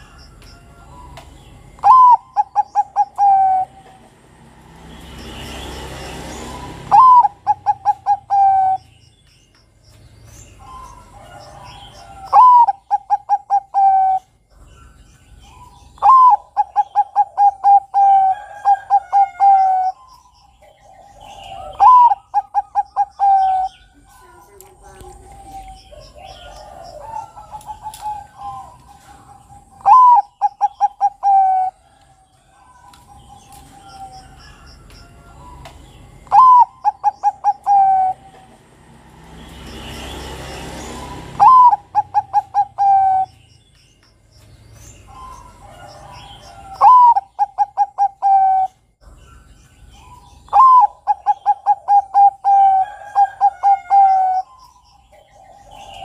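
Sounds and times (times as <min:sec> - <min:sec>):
dove cooing song: 0:00.0 - 0:04.6, 0:05.2 - 0:09.1, 0:10.4 - 0:43.5, 0:44.8 - 0:56.0
small birds chirping: 0:00.0 - 0:56.0.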